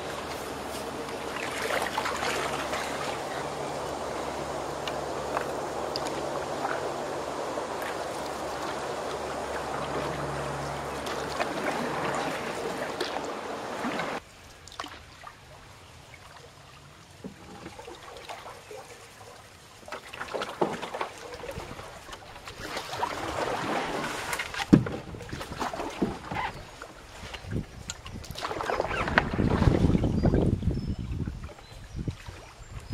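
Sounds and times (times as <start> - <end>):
canoe rustling through reeds: 0.0 - 14.2, 20.0 - 32.9
paddle splashes: 0.0 - 32.9
trickling water: 0.0 - 32.9.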